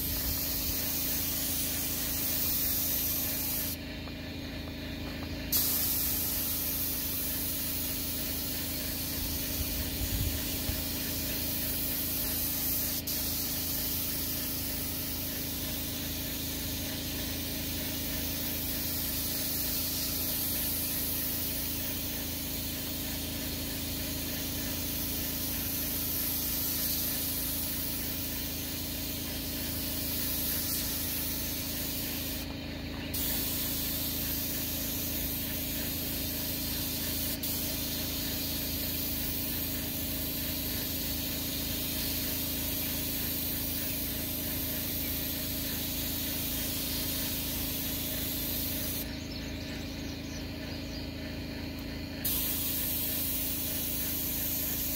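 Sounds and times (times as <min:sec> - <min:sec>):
paint spray gun hissing: 0:00.0 - 0:54.9.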